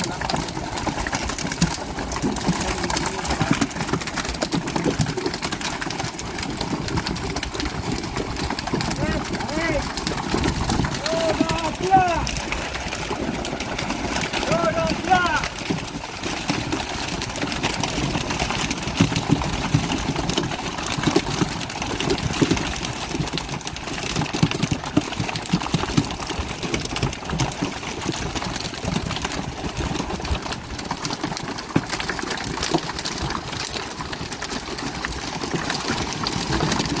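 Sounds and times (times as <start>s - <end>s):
boat engine running: 0.0s - 35.3s
water sounds: 0.0s - 37.0s.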